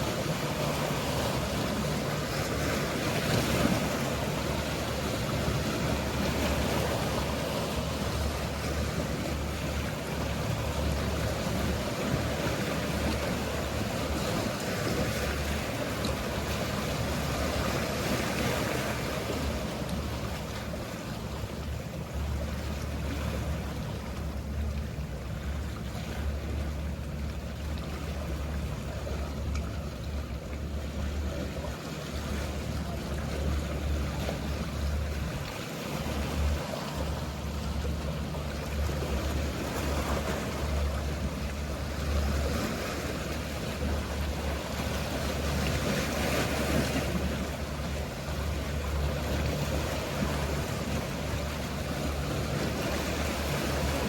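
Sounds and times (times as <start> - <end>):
low steady rumble: 0.0 - 54.0
sea waves washing: 0.0 - 54.0.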